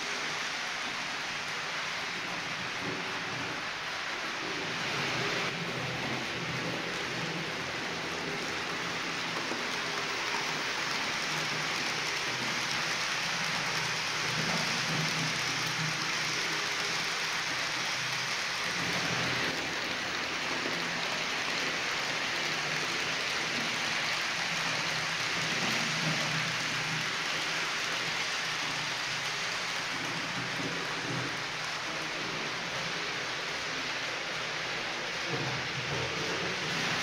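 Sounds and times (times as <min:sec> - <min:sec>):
model train wheels on rails: 0:00.0 - 0:37.0.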